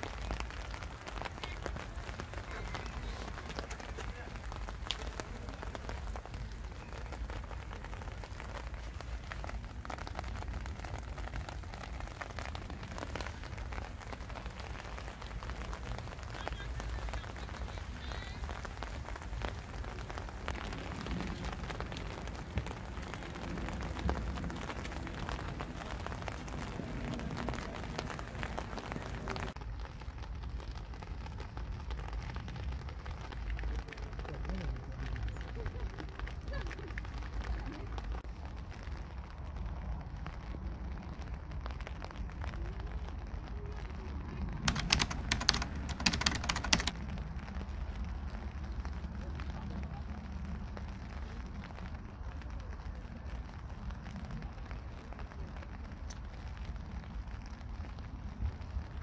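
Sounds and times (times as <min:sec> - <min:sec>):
steady rain on hard surfaces: 0:00.0 - 0:59.0.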